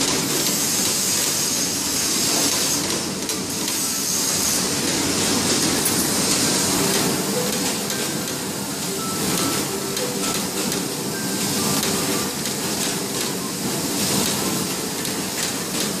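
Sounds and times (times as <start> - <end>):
machinery hiss and whir: 0.0 - 16.0.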